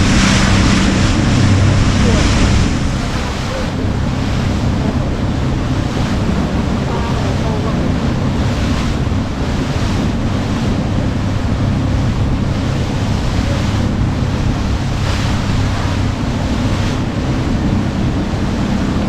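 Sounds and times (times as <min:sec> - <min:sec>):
sea water slapping boat: 0:00.0 - 0:19.0
wind buffeting microphone: 0:00.0 - 0:19.0.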